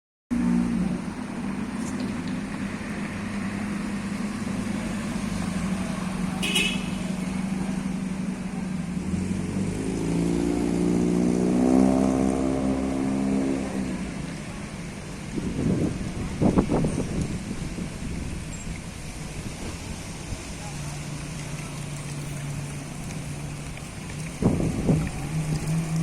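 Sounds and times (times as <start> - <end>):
vehicle engines running: 0.3 - 26.0.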